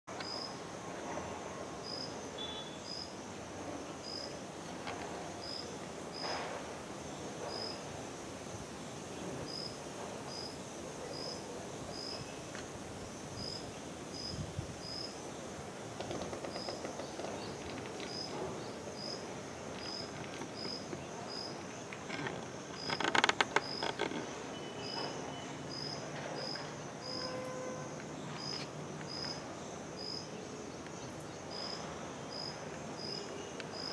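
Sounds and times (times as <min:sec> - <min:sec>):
high insect drone: 0:00.2 - 0:33.9.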